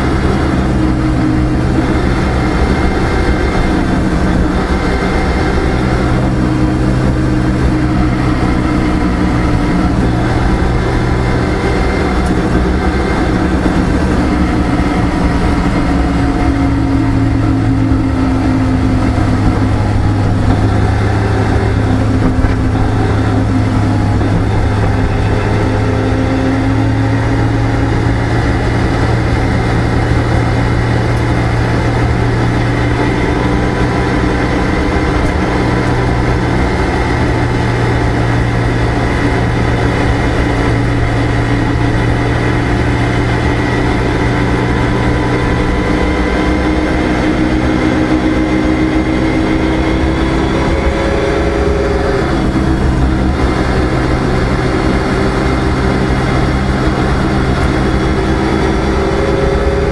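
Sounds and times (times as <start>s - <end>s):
car engine running: 0.0s - 59.9s
tyre and road noise: 0.0s - 59.9s.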